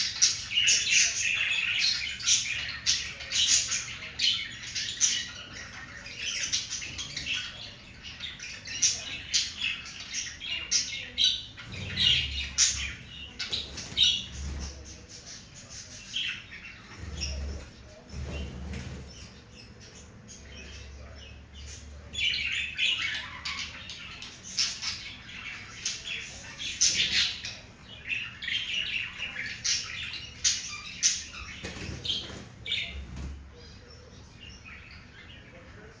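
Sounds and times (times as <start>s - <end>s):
budgerigars chirping and chattering: 0.0s - 36.0s.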